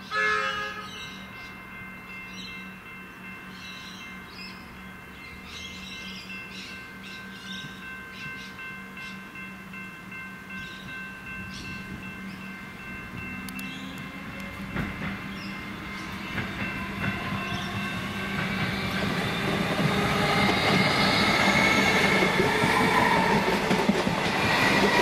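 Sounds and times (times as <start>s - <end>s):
electric train humming: 0.0s - 25.0s
birds chirping: 0.8s - 9.3s, 10.5s - 25.0s.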